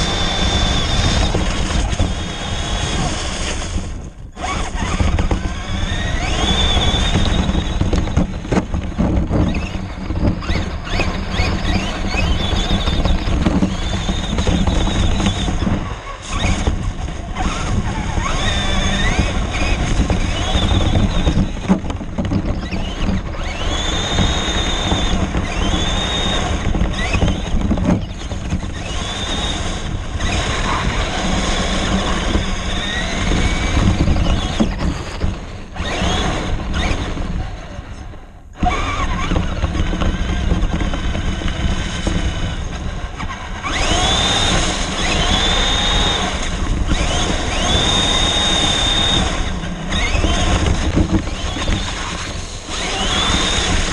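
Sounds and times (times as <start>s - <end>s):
rc car motor whining: 0.0s - 53.9s
tyres rumbling through slush: 0.0s - 53.9s.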